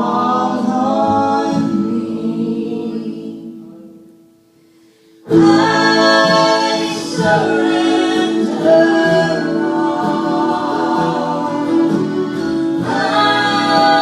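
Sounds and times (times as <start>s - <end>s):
vocal trio singing a hymn: 0.0s - 4.0s, 5.2s - 14.0s.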